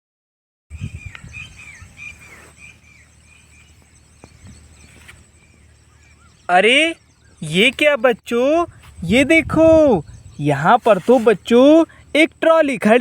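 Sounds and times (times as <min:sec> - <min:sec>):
birds chirping: 0:00.7 - 0:13.0
faint high insect whine: 0:00.7 - 0:13.0.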